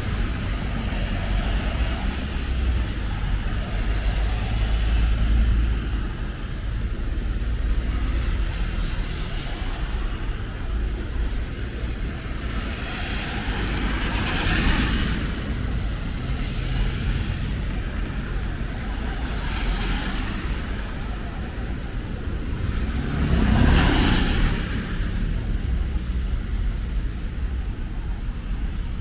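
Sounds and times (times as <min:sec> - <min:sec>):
car passing on wet road: 0:00.0 - 0:29.0
low traffic rumble: 0:00.0 - 0:29.0.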